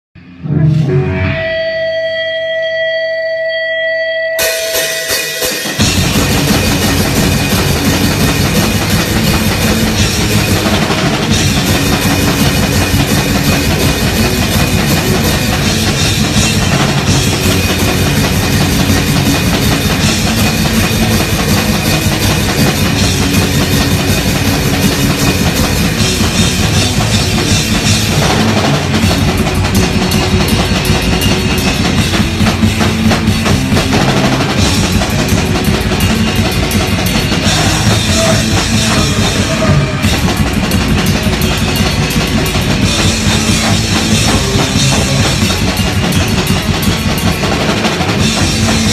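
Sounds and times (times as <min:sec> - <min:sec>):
rock music: 0:00.2 - 0:48.9
cymbal crashes: 0:04.4 - 0:48.9
drum kit played hard: 0:04.4 - 0:48.9.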